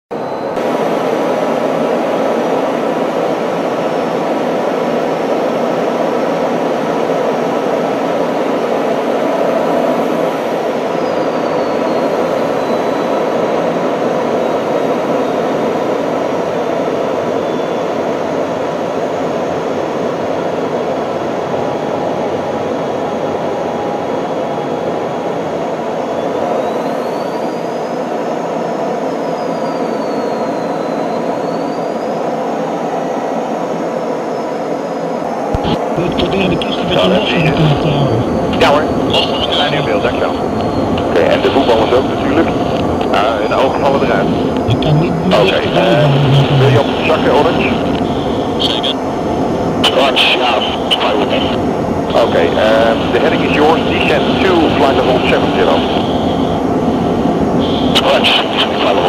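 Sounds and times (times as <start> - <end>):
faint high whine: 0.1 - 59.0
jet engine and airflow noise: 0.1 - 59.0.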